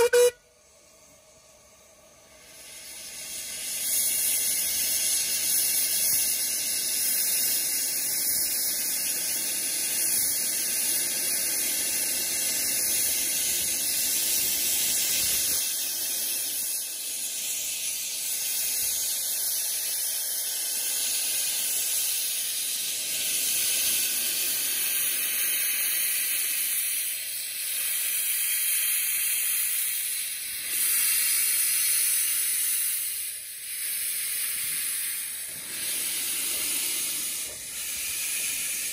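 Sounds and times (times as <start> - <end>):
steam hissing: 0.0 - 38.9.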